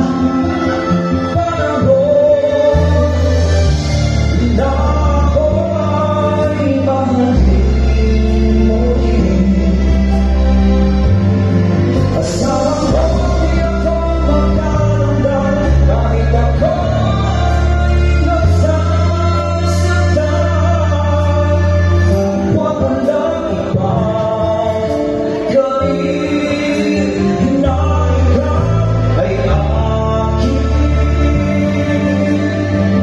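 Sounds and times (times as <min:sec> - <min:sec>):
amplified backing music: 0:00.0 - 0:33.0
low bass notes: 0:00.0 - 0:33.0
man singing into microphone: 0:00.0 - 0:33.0.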